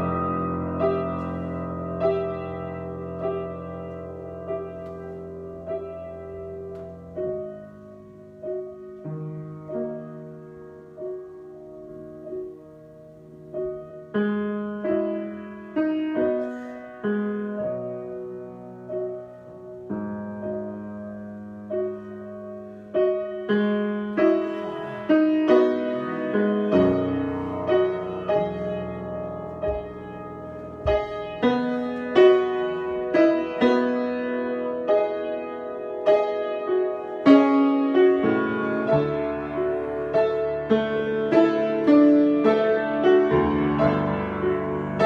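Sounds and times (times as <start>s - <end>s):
solo piano: 0.0s - 45.0s.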